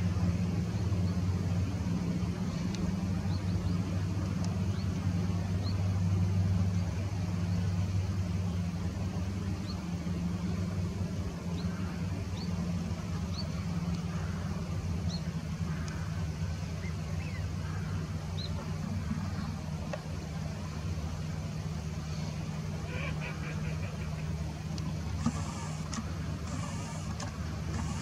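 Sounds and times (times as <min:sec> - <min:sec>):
steady low drone: 0:00.0 - 0:28.0.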